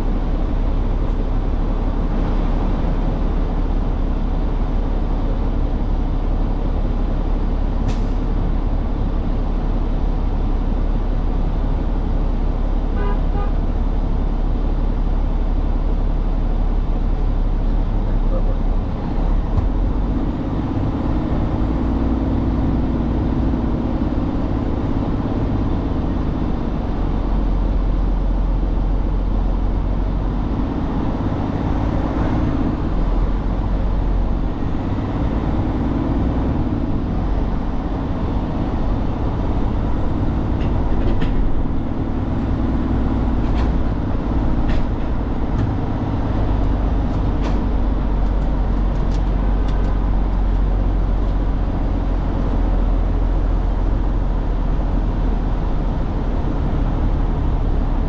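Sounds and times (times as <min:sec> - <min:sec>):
truck engine drone in cab: 0:00.0 - 0:58.0.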